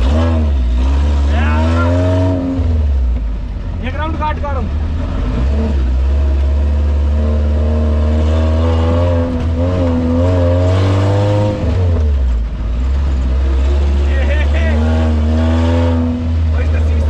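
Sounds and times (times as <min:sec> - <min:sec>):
off-road vehicle engine rumbling: 0:00.0 - 0:17.0.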